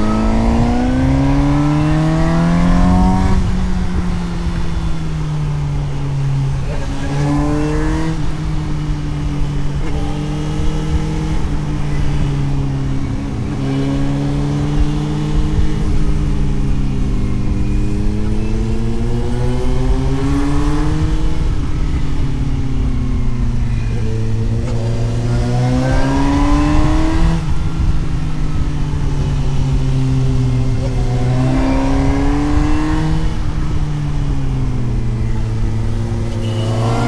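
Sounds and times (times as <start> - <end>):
motorcycle engine revving: 0.0 - 37.0
wind noise: 0.0 - 37.0.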